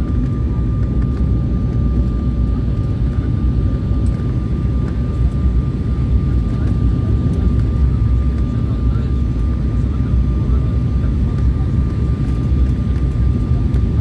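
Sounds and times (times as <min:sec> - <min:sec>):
jet engine cabin rumble: 0:00.0 - 0:14.0.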